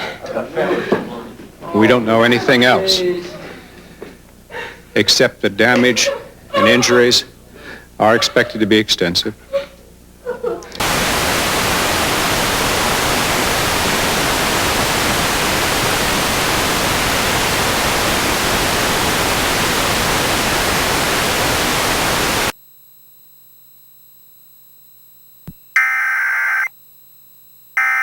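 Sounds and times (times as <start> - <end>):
television static hiss: 0.0 - 22.6
faint steady hum: 0.0 - 25.8.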